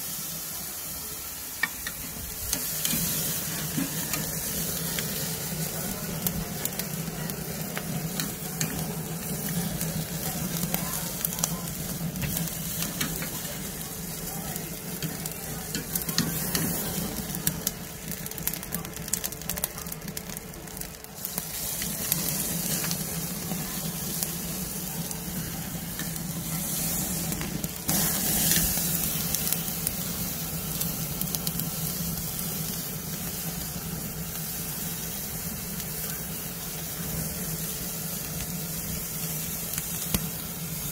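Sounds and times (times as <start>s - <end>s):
crackle of fat and fire: 0.0s - 40.9s
meat sizzling on a grill: 0.0s - 40.9s.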